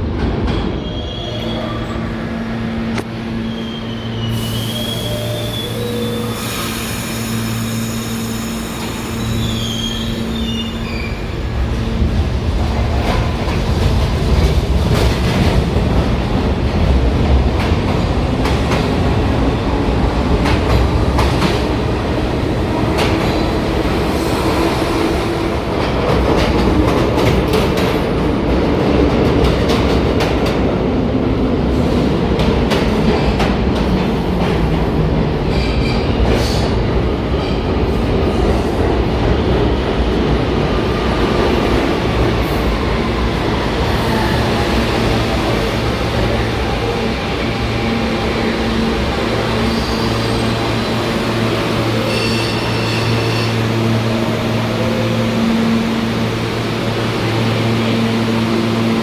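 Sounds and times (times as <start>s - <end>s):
subway wheels clacking and squealing: 0.0s - 59.0s
train whine: 0.0s - 59.0s.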